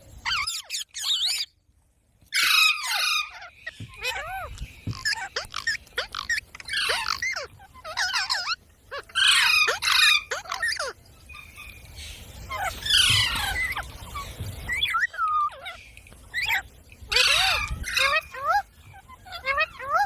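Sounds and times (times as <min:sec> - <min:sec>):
parrot chirping: 0:00.1 - 0:01.6, 0:02.3 - 0:20.0
parrot screeching: 0:00.2 - 0:01.5, 0:02.3 - 0:11.7, 0:12.5 - 0:20.0.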